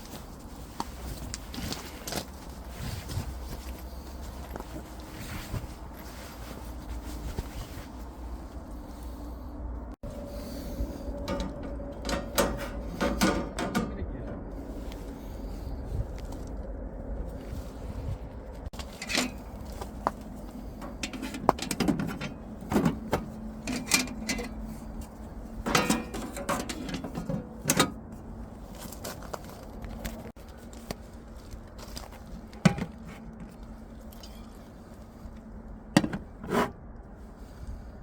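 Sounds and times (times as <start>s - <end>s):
steady low hum: 0.2s - 38.0s.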